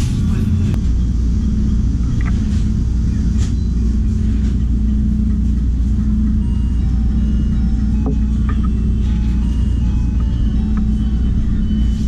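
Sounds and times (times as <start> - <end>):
droning hum: 0.0 - 12.0
street traffic rumble: 0.0 - 12.0.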